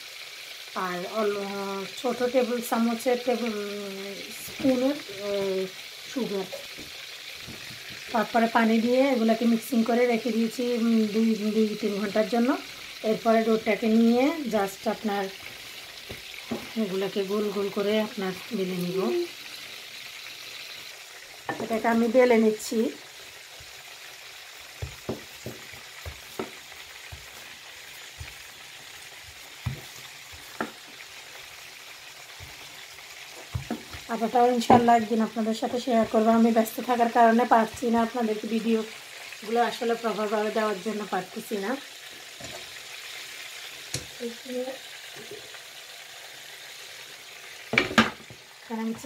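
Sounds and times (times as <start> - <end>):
food frying in hot oil: 0.0 - 49.0.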